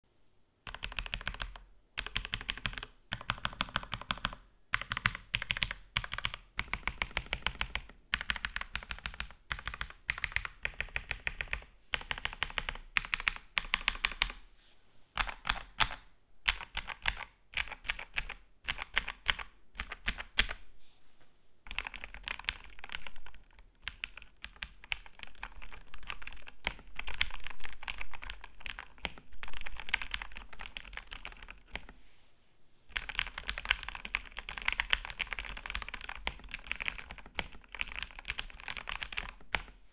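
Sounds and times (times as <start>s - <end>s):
typing on mechanical keyboard: 0.7s - 14.4s, 15.2s - 20.6s, 21.7s - 31.9s, 32.9s - 39.7s.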